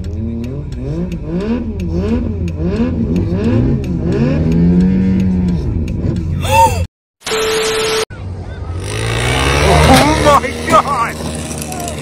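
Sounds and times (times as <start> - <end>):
motorcycle engine revving: 0.0 - 6.4, 8.1 - 12.0.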